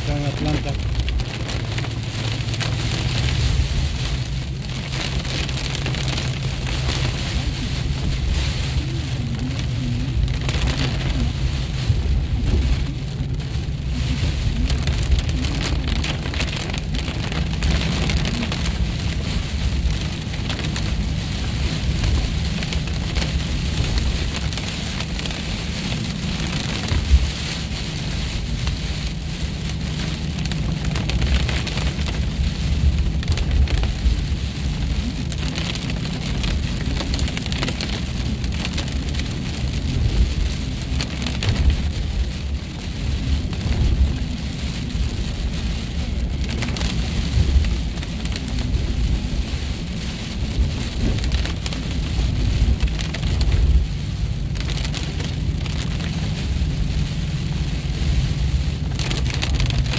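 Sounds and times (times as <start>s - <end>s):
heavy rain on car windshield: 0.0s - 59.9s
low rumble of car on road: 0.0s - 59.9s.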